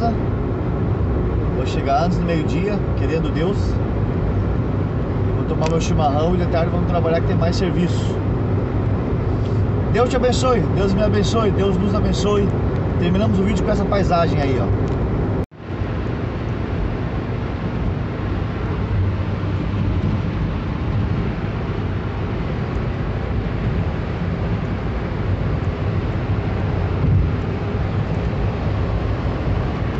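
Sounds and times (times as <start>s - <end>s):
road and engine rumble in vehicle: 0.0s - 29.9s.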